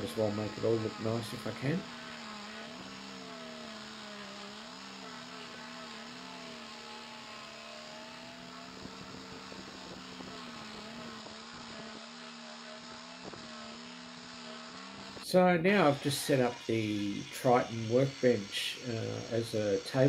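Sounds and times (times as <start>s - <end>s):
orbital sander motor hum: 0.0s - 20.0s.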